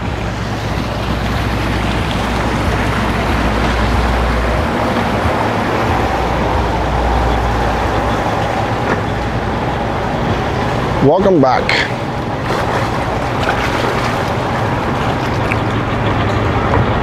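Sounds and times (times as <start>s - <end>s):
outboard motors running: 0.0s - 17.0s
water churning: 0.0s - 17.0s.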